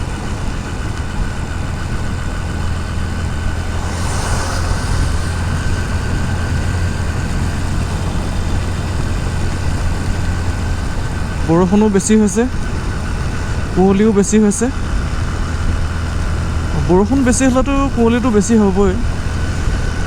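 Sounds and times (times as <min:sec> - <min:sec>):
motorcycle engine running: 0:00.0 - 0:20.0
wet road noise: 0:00.0 - 0:20.0
wind noise: 0:00.0 - 0:20.0.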